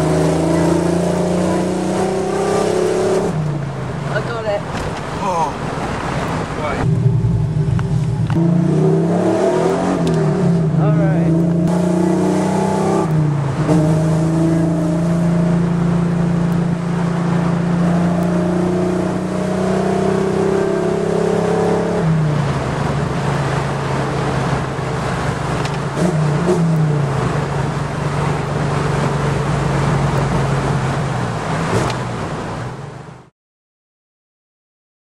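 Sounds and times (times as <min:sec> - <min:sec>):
car engine cruising: 0:00.0 - 0:33.3.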